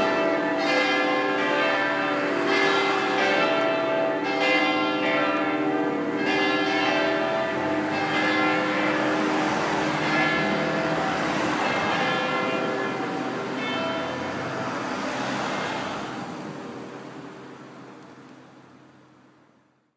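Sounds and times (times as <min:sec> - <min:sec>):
church bells pealing: 0:00.0 - 0:17.6.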